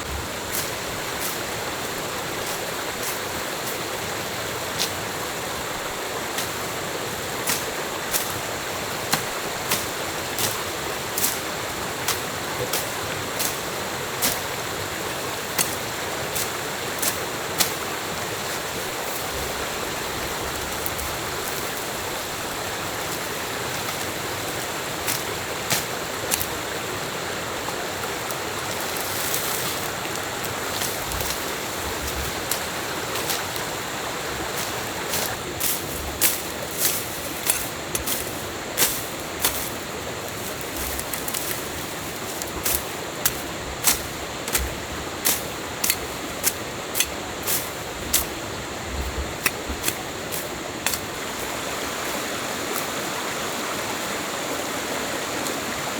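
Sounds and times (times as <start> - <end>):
stream running water: 0.0 - 55.9.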